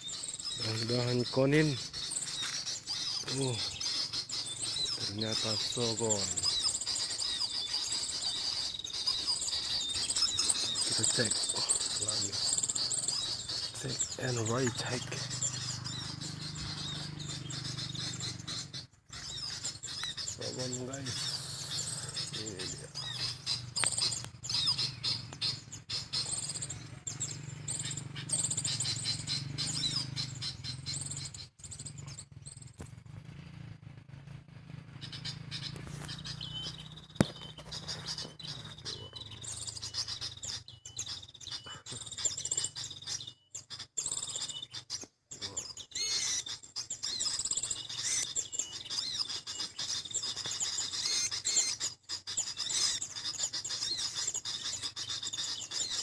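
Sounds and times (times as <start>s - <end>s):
small birds chirping: 0.0s - 34.1s, 34.8s - 56.0s.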